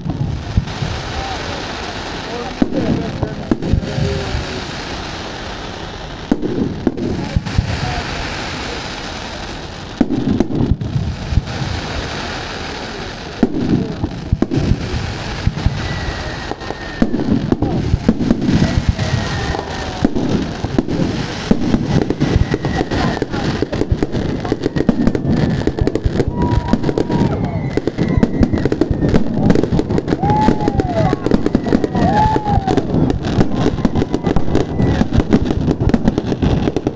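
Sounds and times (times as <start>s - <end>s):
fireworks bangs and crackling pops: 0.0s - 36.9s
fireworks whistles gliding in pitch: 0.0s - 36.9s.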